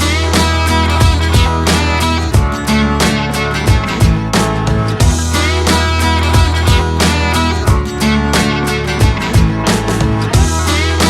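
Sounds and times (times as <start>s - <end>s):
guitar-led music with beat: 0.0s - 11.0s.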